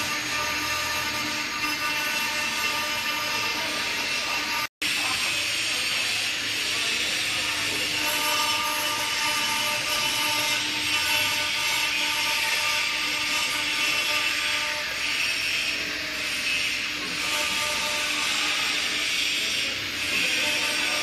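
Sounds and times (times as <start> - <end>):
engraving spindle cutting stone: 0.0 - 21.0.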